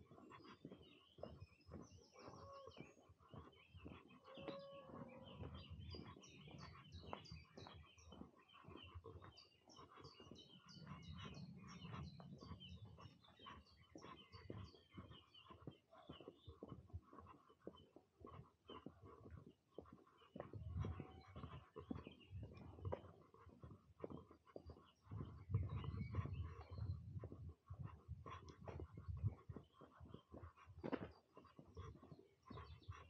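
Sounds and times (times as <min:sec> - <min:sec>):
birds chirping: 0:00.0 - 0:33.0
footsteps crunching on a path: 0:00.0 - 0:33.0.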